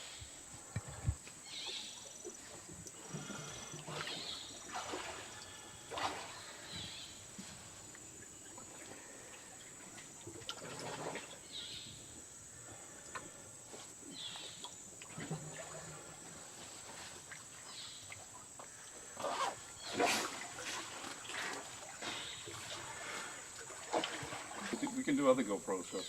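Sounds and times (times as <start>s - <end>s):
kayak paddle dipping and dripping: 0.2s - 26.0s.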